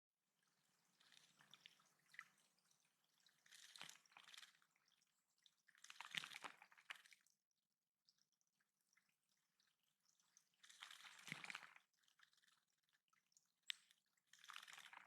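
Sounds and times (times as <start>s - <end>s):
water dripping and splashing: 0.9s - 7.4s, 8.1s - 15.0s.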